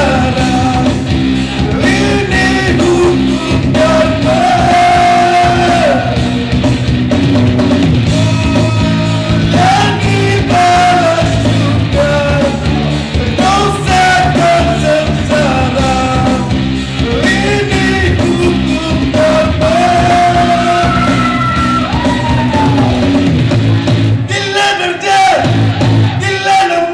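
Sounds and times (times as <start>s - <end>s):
man singing rock song: 0.0s - 23.6s, 24.2s - 26.9s
rock band playing: 0.0s - 26.6s.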